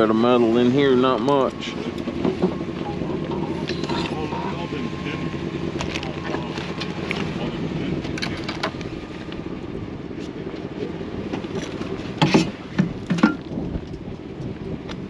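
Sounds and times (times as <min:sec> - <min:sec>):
vehicle idling: 0:00.0 - 0:14.5.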